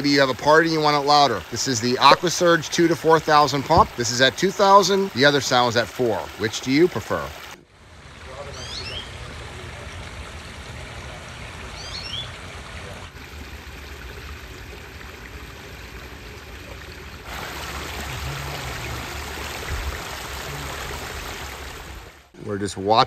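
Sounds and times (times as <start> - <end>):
water trickling over rocks: 0.0 - 22.4.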